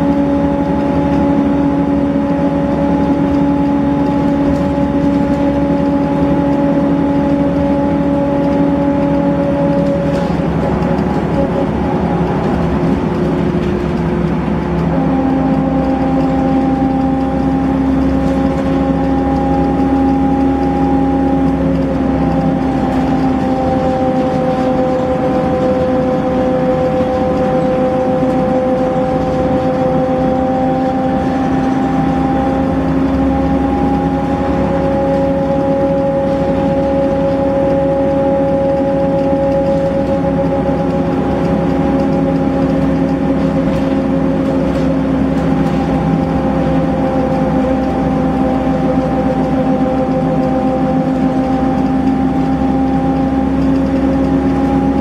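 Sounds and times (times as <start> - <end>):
bus diesel engine whine: 0.0 - 55.0
low road rumble: 0.0 - 55.0.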